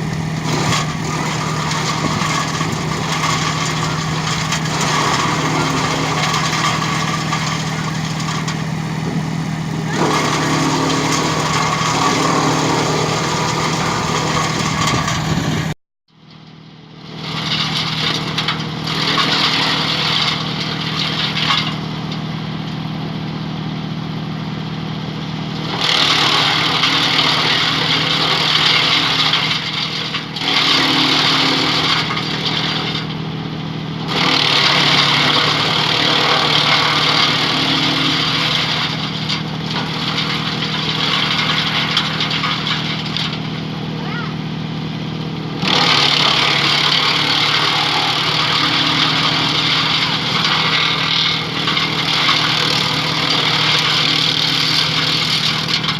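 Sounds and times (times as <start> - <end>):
wood chipper humming: 0.0 - 55.9.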